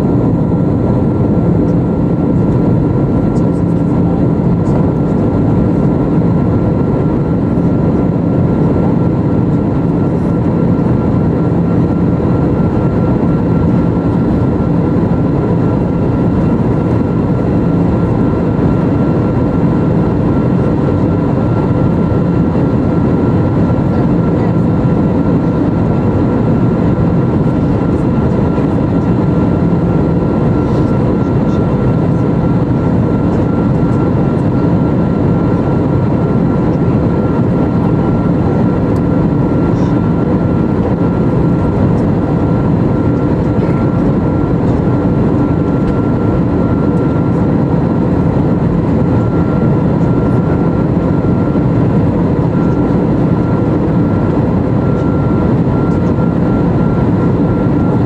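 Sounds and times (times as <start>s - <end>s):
aircraft cabin air and engine noise: 0.0s - 58.0s.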